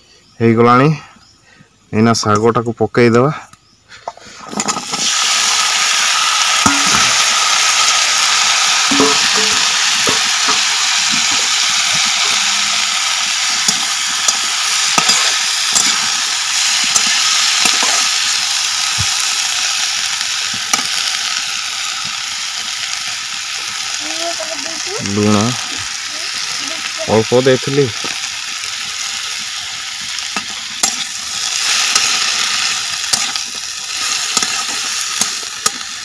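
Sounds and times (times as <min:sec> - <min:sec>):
greens sizzling in hot oil: 0:04.4 - 0:36.0.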